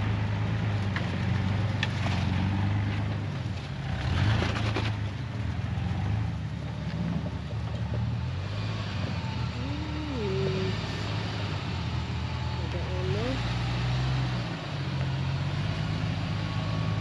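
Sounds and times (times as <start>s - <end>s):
engine running low: 0.0s - 17.0s.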